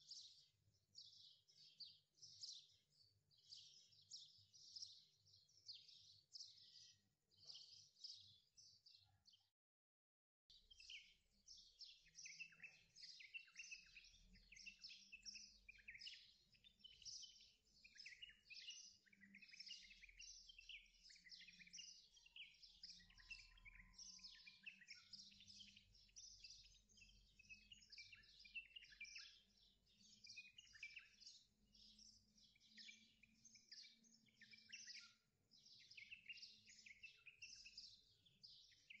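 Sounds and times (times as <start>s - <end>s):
small birds chirping: 0.0s - 9.6s, 10.5s - 39.0s.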